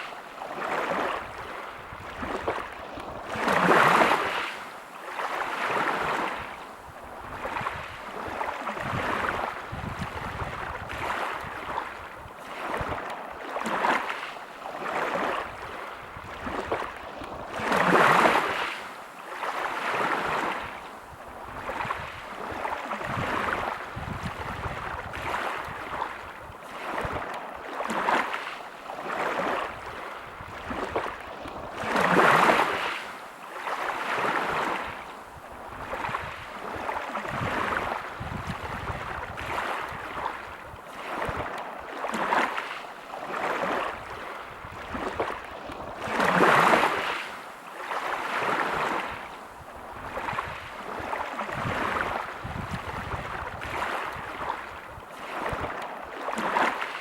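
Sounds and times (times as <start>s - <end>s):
waves breaking on pebble beach: 0.0s - 6.6s, 7.3s - 20.8s, 21.6s - 35.1s, 35.8s - 57.0s.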